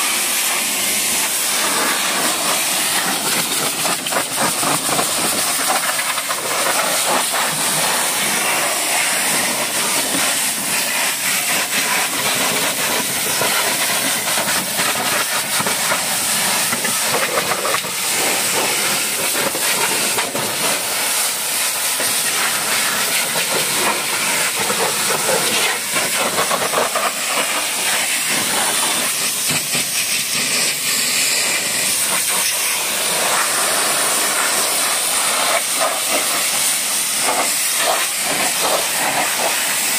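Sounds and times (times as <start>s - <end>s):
pressure washer jet hissing: 0.0s - 39.9s.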